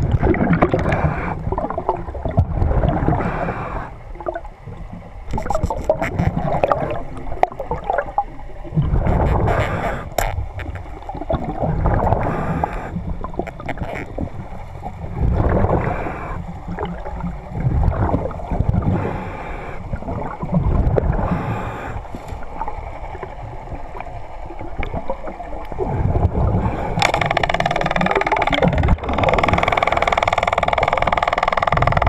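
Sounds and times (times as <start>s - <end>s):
muffled underwater rushing: 0.0s - 32.0s.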